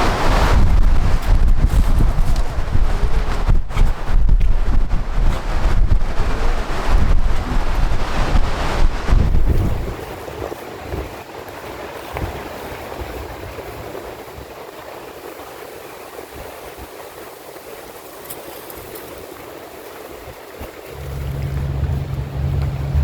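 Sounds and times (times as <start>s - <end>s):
sea surf washing on shore: 0.0s - 23.0s
wind buffeting microphone: 0.0s - 23.0s.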